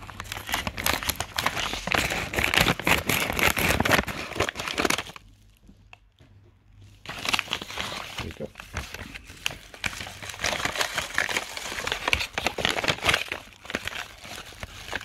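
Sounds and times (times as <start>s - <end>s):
paper mailer crinkling: 0.0s - 5.2s, 7.0s - 15.0s.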